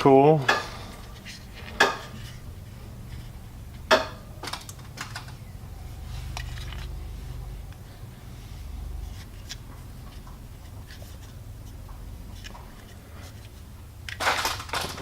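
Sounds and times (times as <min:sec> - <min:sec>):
objects being handled: 0:00.5 - 0:07.9, 0:08.9 - 0:15.0.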